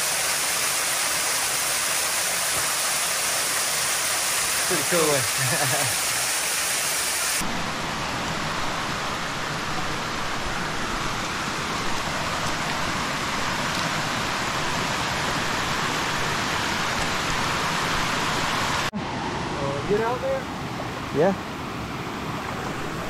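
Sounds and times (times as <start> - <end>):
creek running over rocks: 0.0 - 18.9, 21.2 - 23.0.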